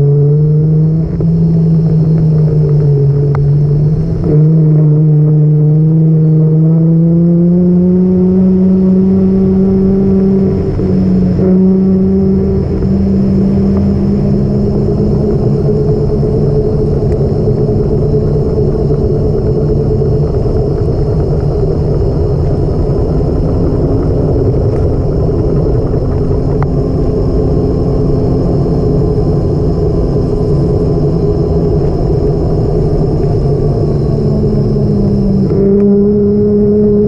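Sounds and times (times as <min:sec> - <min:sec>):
road rumble: 0:00.0 - 0:37.0
vehicle engine drone: 0:00.0 - 0:37.0.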